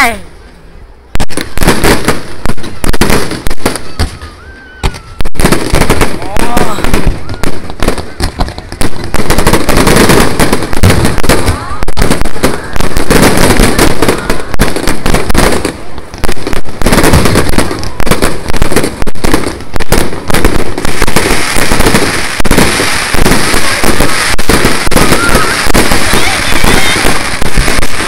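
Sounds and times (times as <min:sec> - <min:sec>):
fireworks bangs: 0:01.1 - 0:28.0.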